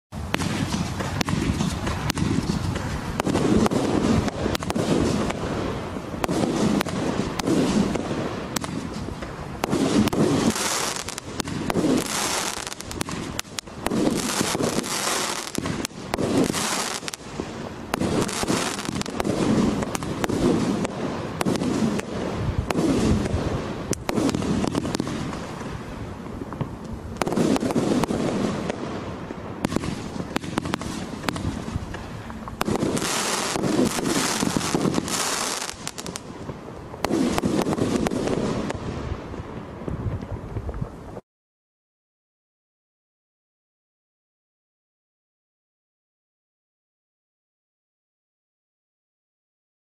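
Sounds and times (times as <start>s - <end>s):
fireworks crackling: 0.1s - 41.2s.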